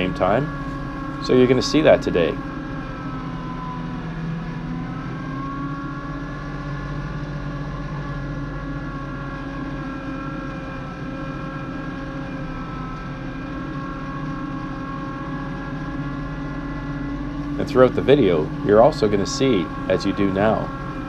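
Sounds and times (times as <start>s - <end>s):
tractor diesel engine running: 0.0s - 13.7s, 14.3s - 21.0s.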